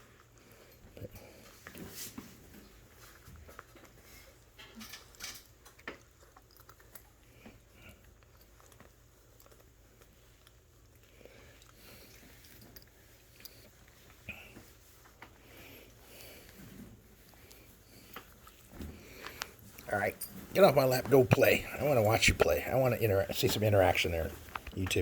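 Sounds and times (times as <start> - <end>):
puppies chewing and mouthing: 0.0 - 25.0.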